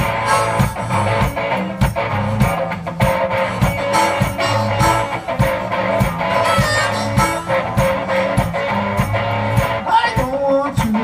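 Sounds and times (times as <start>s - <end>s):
bass line: 0.0s - 11.0s
steady drum beat: 0.0s - 11.0s
strummed electric guitar: 0.0s - 11.0s.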